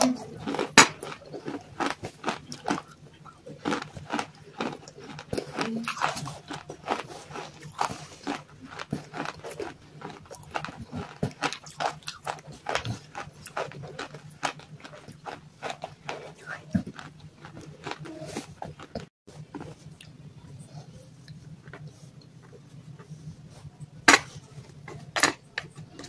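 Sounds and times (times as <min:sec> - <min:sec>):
wet chewing crunches: 0:00.0 - 0:26.0.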